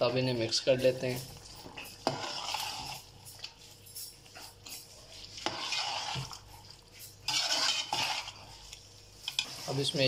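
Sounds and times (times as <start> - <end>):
metal spatula scraping a pot: 1.0 - 10.0.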